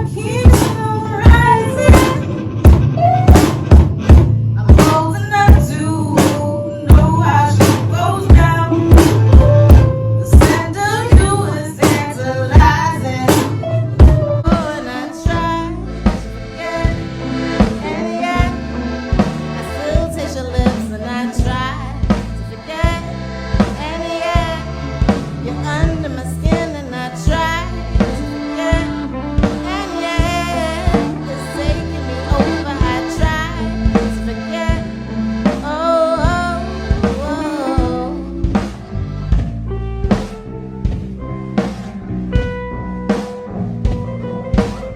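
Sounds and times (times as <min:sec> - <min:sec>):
band playing: 0:00.0 - 0:44.9
drum kit beat: 0:00.0 - 0:44.9.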